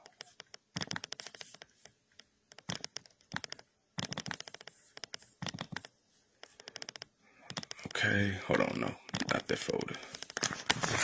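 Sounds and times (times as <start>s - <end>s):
rapid clicking on laptop: 0.0s - 11.0s.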